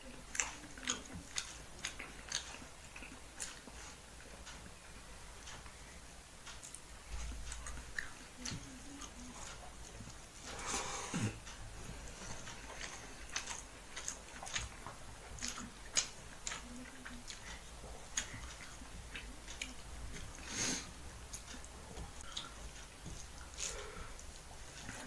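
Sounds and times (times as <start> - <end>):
person chewing and lip smacking: 0.0 - 5.8, 6.4 - 10.6, 11.3 - 20.5, 21.3 - 25.0.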